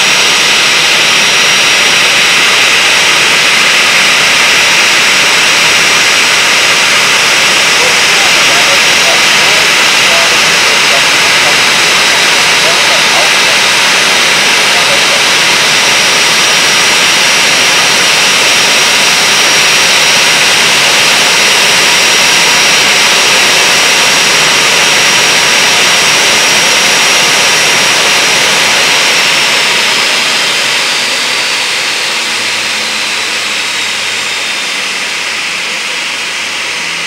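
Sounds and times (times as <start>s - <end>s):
jet engines idling: 0.0s - 37.0s.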